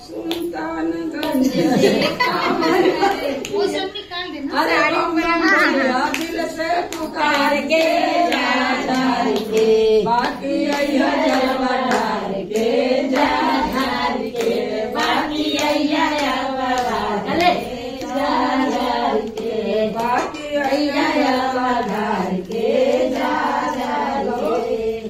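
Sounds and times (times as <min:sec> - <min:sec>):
hand claps: 0:00.0 - 0:03.7, 0:05.2 - 0:25.0
women singing chant: 0:00.0 - 0:03.8, 0:04.4 - 0:25.0.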